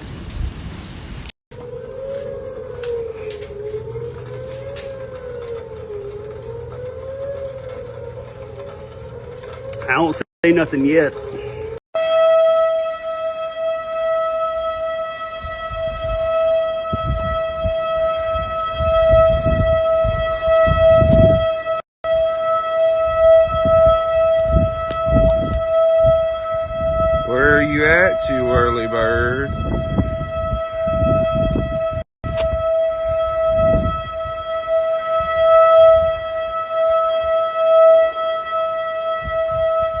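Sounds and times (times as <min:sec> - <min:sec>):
wind rumble on microphone: 0:00.0 - 0:10.2, 0:14.4 - 0:40.0
warning siren steady tone: 0:01.5 - 0:40.0.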